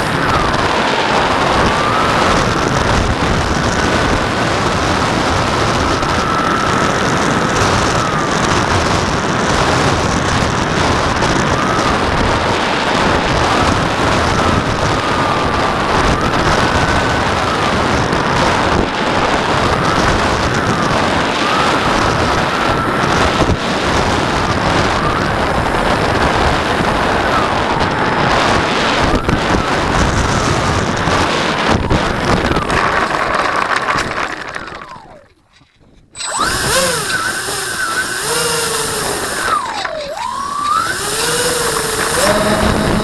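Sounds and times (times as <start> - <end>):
propeller motors whining: 0.0 - 43.0
wind rushing over camera: 0.0 - 43.0.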